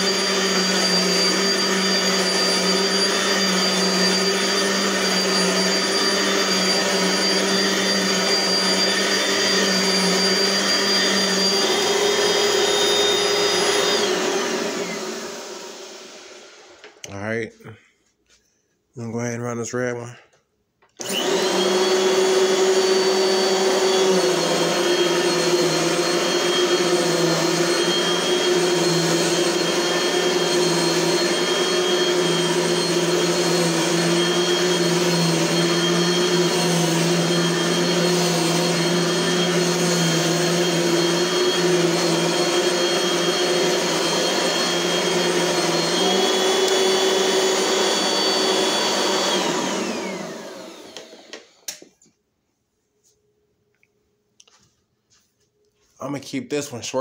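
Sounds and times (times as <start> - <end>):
vacuum cleaner motor whine: 0.0 - 17.4, 20.9 - 51.9.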